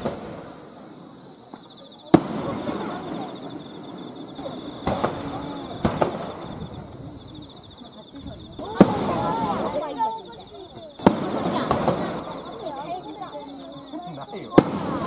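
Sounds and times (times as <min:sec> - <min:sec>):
fireworks bursting: 0:00.0 - 0:15.0
insects chirring: 0:00.0 - 0:15.0.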